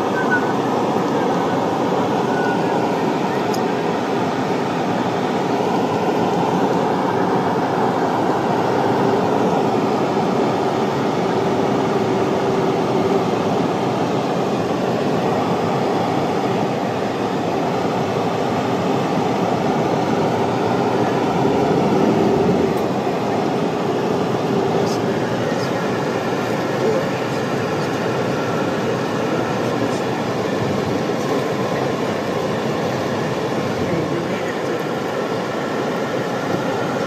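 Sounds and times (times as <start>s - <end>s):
car road noise from inside cabin: 0.0s - 37.0s.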